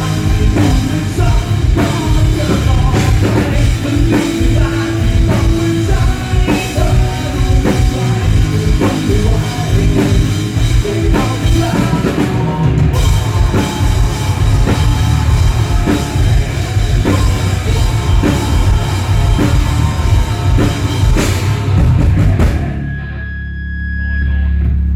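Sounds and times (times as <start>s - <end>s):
loud rock music: 0.0s - 24.9s.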